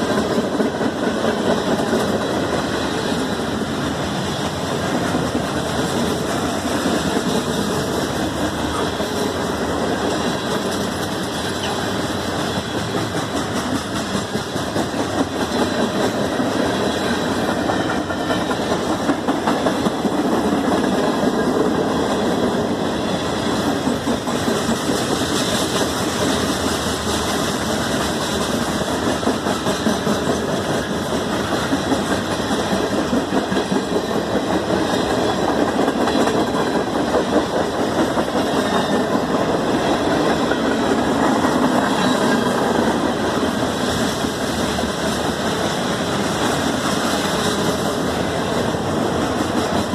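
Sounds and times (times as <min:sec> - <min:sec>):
freight train rumbling past: 0:00.0 - 0:49.9
steel wheels clattering on rails: 0:00.0 - 0:49.9.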